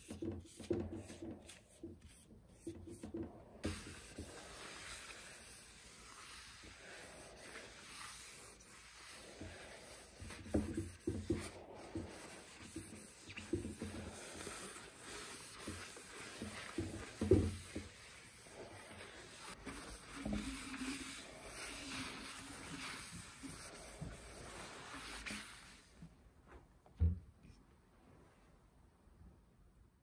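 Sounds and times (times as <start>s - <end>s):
paper towel rubbing on wood: 0.0s - 25.9s.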